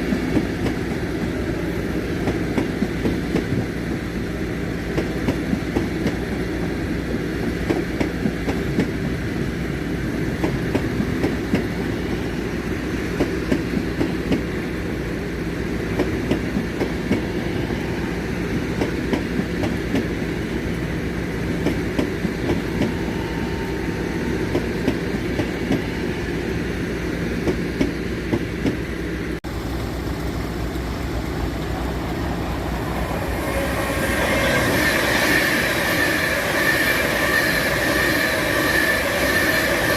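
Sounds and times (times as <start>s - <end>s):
train low hum: 0.0s - 39.9s.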